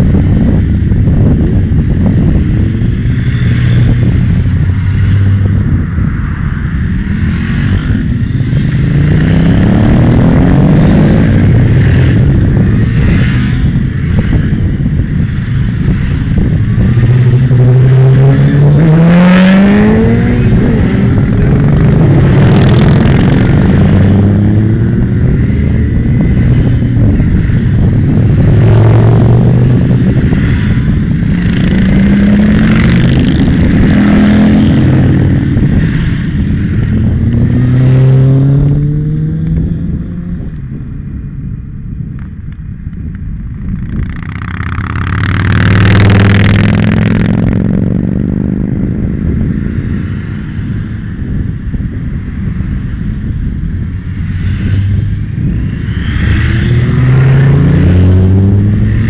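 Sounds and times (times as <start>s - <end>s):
motorcycles accelerating past: 0.0s - 40.6s, 43.8s - 51.6s, 52.2s - 59.0s.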